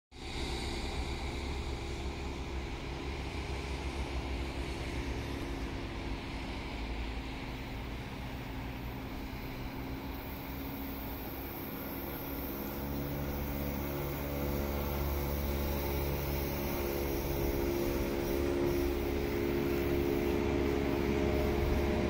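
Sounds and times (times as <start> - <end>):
low rumble of distant vehicles: 0.2 - 22.0.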